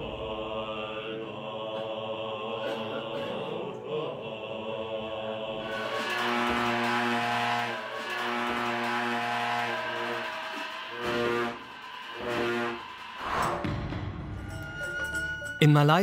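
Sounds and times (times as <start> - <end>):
monks chanting: 0.0 - 13.4.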